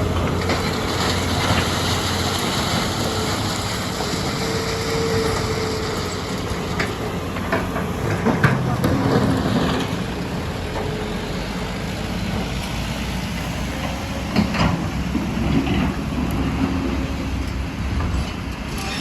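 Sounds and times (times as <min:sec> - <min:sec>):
heavy diesel engines running: 0:00.0 - 0:19.0.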